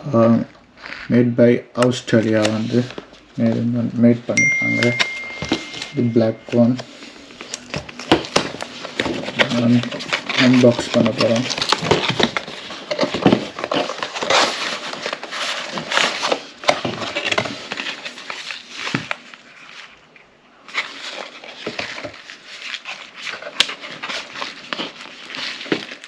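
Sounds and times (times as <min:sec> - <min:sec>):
packaging rustling and scraping: 0:02.1 - 0:26.0.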